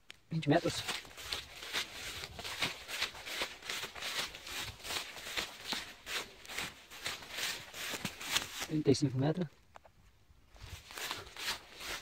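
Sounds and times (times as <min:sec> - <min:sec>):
footsteps swishing through grass: 0:00.4 - 0:08.9, 0:10.6 - 0:12.0.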